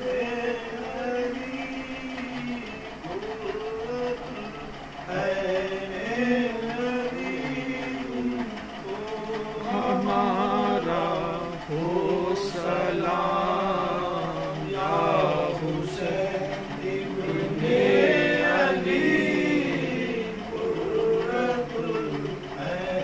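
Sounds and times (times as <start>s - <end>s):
men chanting melodically: 0.0s - 23.0s.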